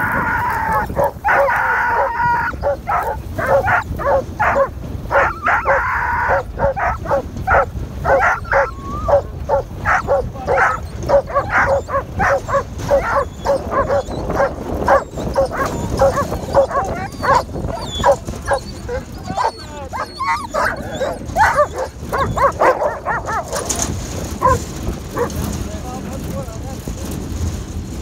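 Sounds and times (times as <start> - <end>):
dogs whining howls: 0.0 - 25.4
dogs yelping and barking: 0.0 - 25.6.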